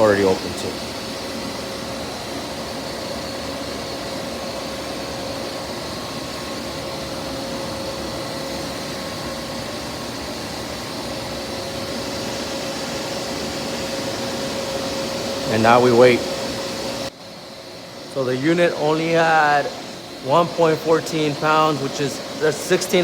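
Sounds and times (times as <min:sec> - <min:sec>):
recovery machine humming: 0:00.0 - 0:23.0.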